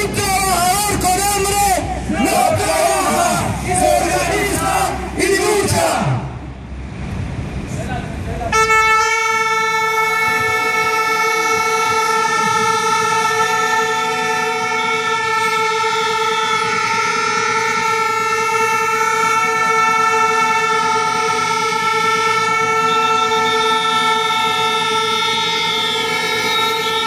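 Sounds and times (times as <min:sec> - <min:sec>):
horn sounding steady note: 0:00.4 - 0:06.4, 0:08.5 - 0:27.0.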